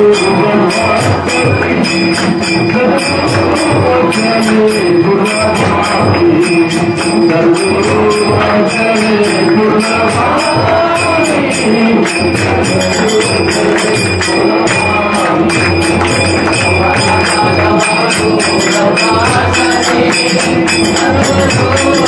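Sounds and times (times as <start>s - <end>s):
held melody: 0.0s - 22.0s
jingling tambourine beat: 0.0s - 22.0s.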